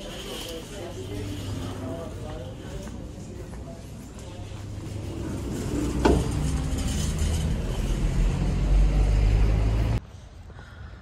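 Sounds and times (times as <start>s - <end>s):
road vehicle rumble: 0.0s - 10.4s.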